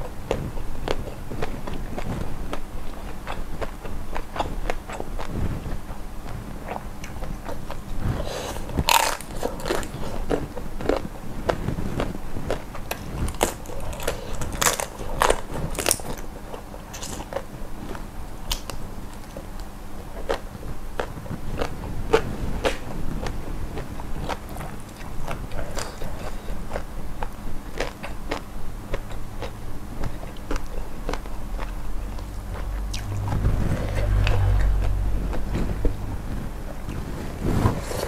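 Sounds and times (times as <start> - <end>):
chewing with crunches: 0.0 - 38.0.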